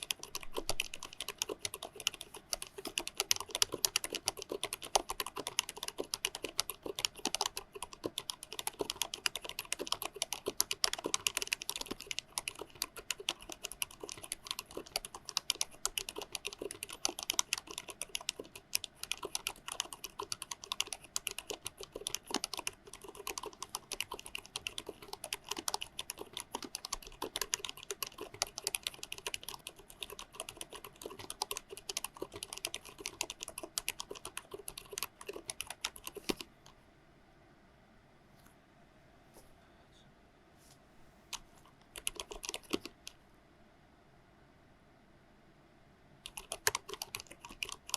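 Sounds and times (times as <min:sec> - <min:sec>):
fast typing on mechanical keyboard: 0:00.0 - 0:36.5, 0:41.3 - 0:43.2, 0:46.3 - 0:47.9.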